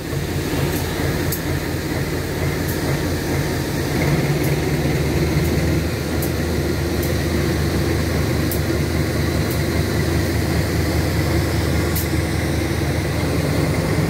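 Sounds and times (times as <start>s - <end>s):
locomotive low drone: 0.0s - 14.0s.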